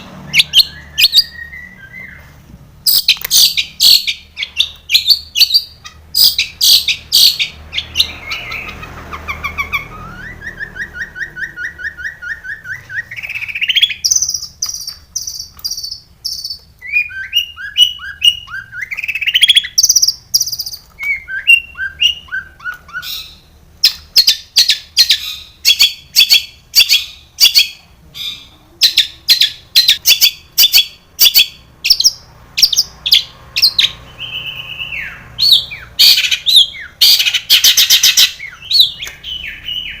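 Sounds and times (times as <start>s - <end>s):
shrike singing: 0.0s - 40.0s.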